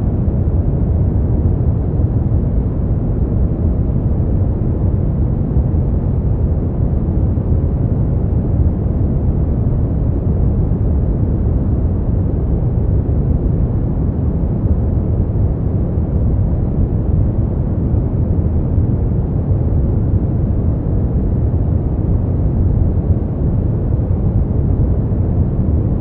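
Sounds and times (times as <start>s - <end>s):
deep rumbling brown noise: 0.0s - 26.0s.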